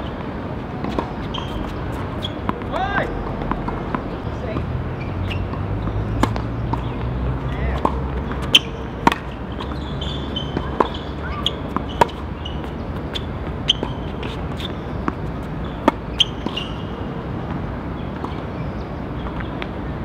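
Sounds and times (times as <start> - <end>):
tennis balls hit by rackets: 0.8 - 18.5.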